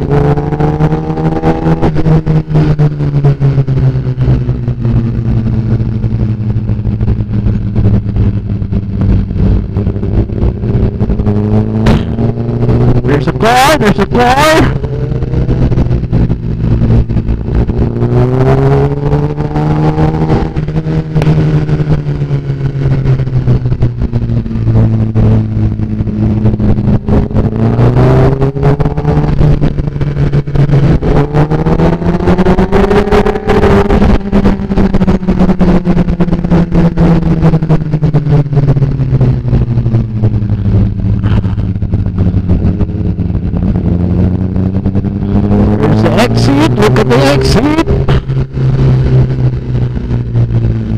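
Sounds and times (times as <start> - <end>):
motorcycle engine running: 0.0 - 50.9
wind buffeting microphone: 0.0 - 50.9.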